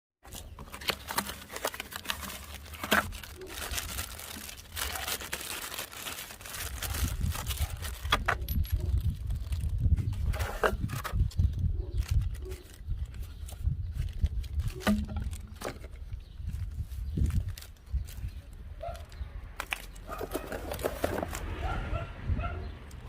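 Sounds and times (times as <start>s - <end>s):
plastic packaging rustling: 0.2s - 21.5s.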